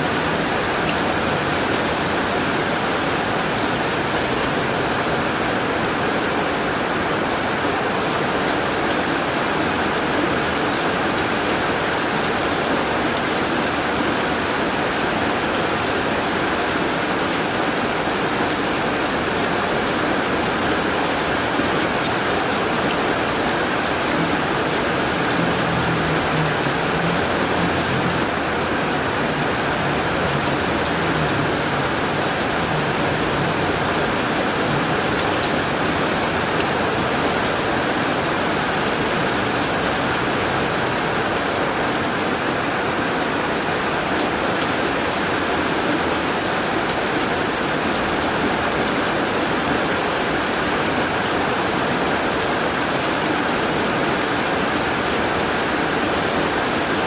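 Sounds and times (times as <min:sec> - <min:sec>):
heavy rain on a tin roof: 0:00.0 - 0:57.0.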